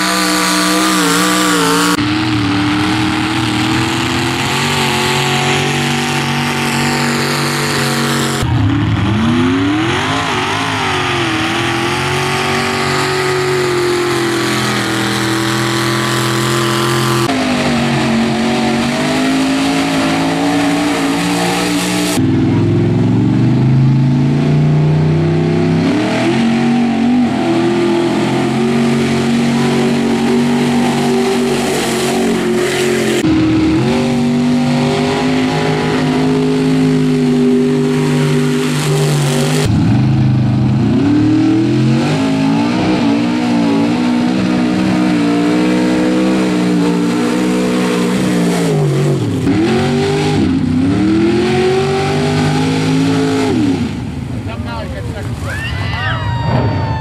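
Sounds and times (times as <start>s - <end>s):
truck engines revving hard: 0.0s - 57.0s.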